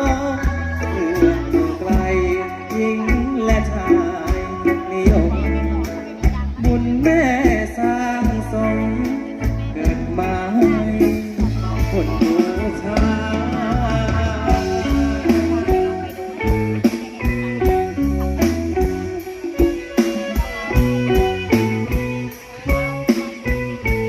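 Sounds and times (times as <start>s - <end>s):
bass guitar: 0.0s - 24.0s
electric guitar: 0.0s - 24.0s
steady drum beat: 0.0s - 24.0s.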